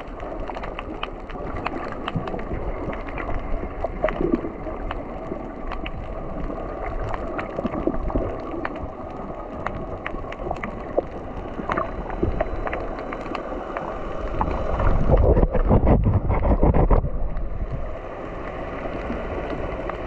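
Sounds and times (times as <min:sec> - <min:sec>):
muffled water sloshing and bubbling: 0:00.0 - 0:20.0.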